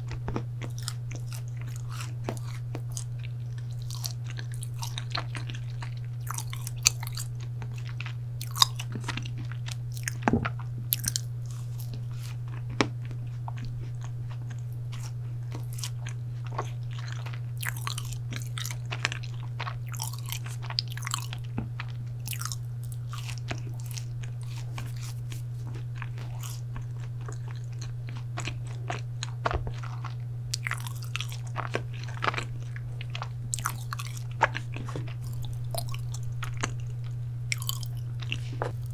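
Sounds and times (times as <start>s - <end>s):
chewing brownie: 0.0s - 38.9s
steady low hum: 0.0s - 38.9s.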